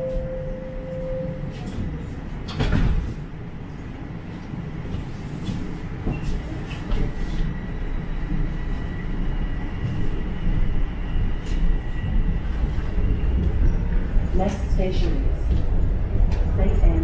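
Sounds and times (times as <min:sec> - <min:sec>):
train wheels rumbling on track: 0:01.4 - 0:17.0.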